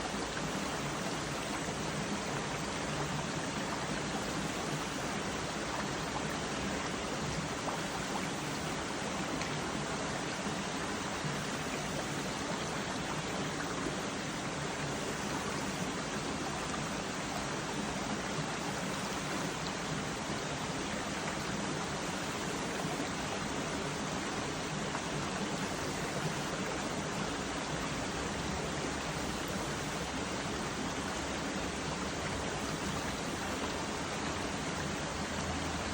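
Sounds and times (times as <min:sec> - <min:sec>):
stream flowing over rocks: 0:00.0 - 0:35.9.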